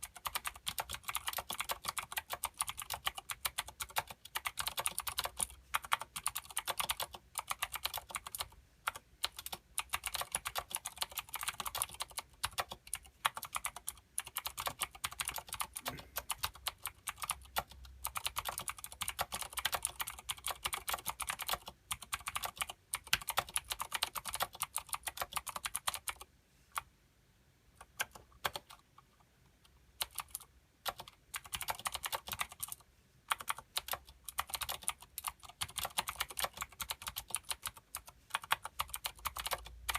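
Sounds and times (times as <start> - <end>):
mechanical keyboard typing: 0.0 - 26.9, 27.8 - 28.9, 30.0 - 39.9.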